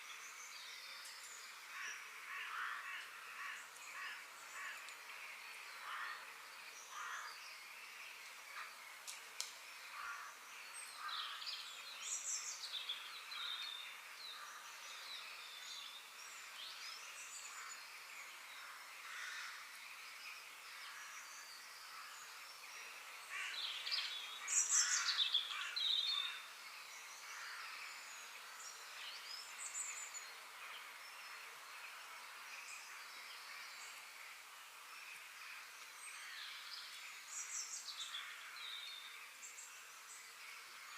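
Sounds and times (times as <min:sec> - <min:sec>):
birds chirping and twittering: 0:00.0 - 0:40.9
faint steady hiss: 0:00.0 - 0:40.9.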